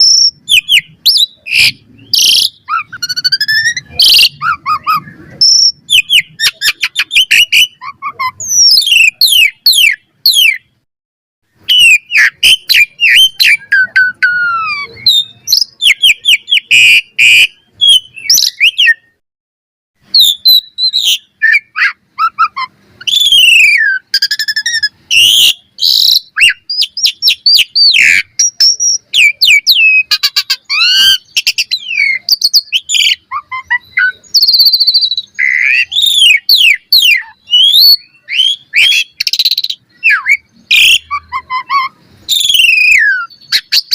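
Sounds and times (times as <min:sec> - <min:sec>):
starling singing whistles and chirps: 0:00.0 - 0:10.7, 0:11.6 - 0:19.2, 0:20.0 - 0:43.9.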